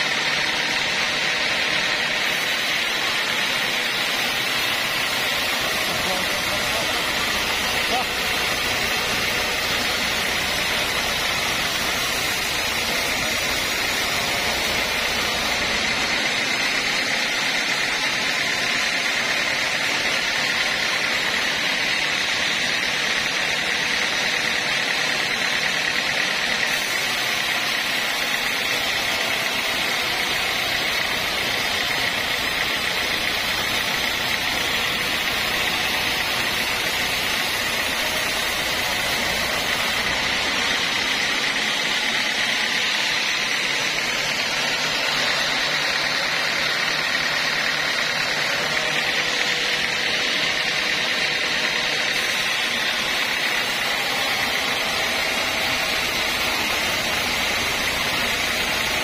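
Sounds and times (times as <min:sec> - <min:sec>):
band sawmill blade sawing wood: 0:00.0 - 0:59.0.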